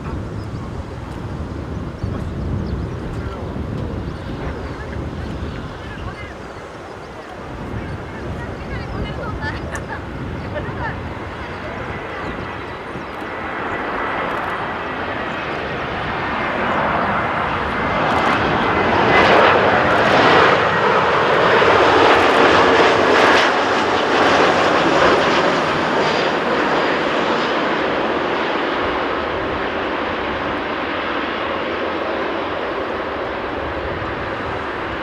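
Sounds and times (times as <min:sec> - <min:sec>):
jet airliner passing overhead: 0:00.0 - 0:35.0.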